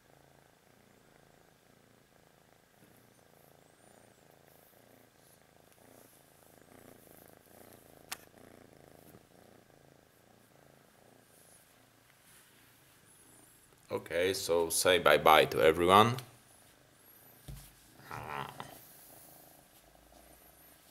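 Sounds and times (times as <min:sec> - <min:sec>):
kitten purring: 0:00.0 - 0:20.9.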